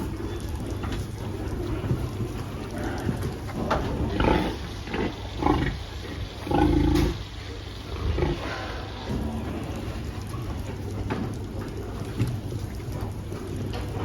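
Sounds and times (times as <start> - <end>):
pigs grunting: 0.0 - 14.0.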